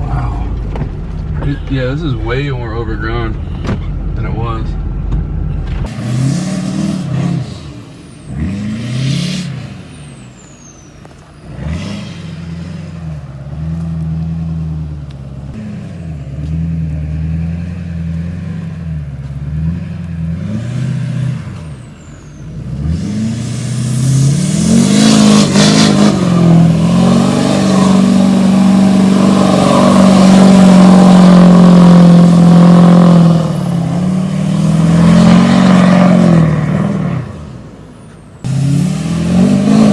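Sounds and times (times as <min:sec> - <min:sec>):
diesel pickup engine revving: 0:00.0 - 0:39.9.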